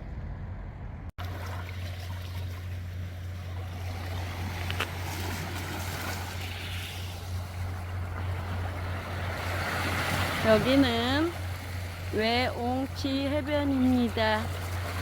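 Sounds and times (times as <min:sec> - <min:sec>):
constant low hum: 0:00.0 - 0:15.0
sea waves washing ashore: 0:01.2 - 0:15.0.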